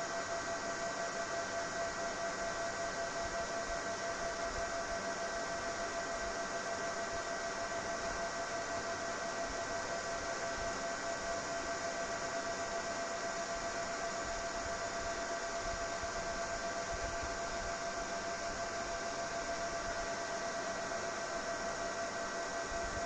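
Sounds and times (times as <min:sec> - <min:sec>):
ventilation fan running: 0:00.0 - 0:23.0.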